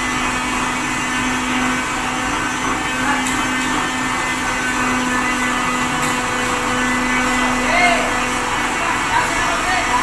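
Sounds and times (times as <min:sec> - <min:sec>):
machine humming steadily: 0:00.0 - 0:10.0.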